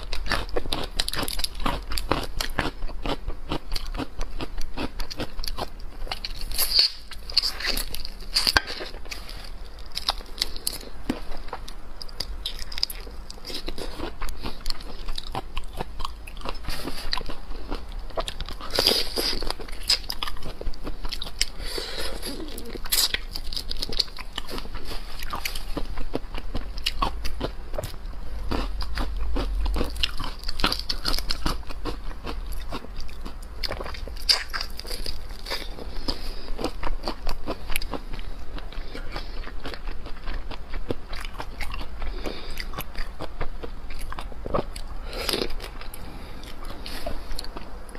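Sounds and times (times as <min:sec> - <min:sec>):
biting and chewing prawns: 0:00.0 - 0:47.9.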